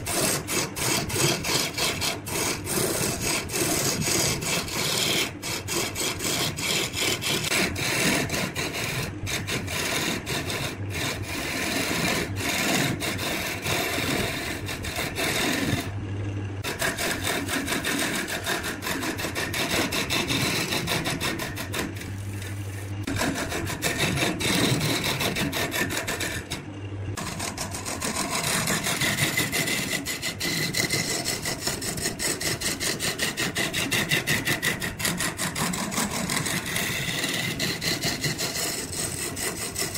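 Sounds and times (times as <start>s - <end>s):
chisel scraping spinning wood: 0.0s - 16.0s, 16.6s - 26.6s, 27.2s - 39.9s
lathe low hum: 0.0s - 39.9s.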